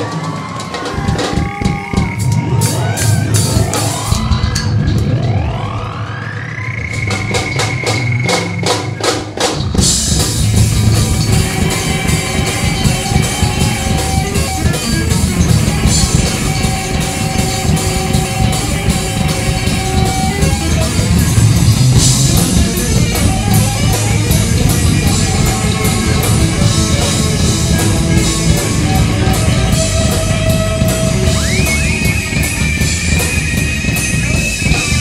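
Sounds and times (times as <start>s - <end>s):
drum kit beat: 0.0s - 5.2s, 7.0s - 35.0s
electric guitar: 0.0s - 35.0s
live rock music: 0.0s - 35.0s.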